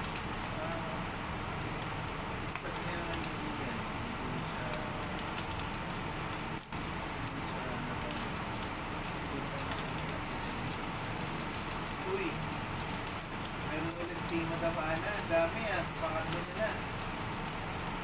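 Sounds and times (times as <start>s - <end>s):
steak sizzling in a pan: 0.0s - 18.0s.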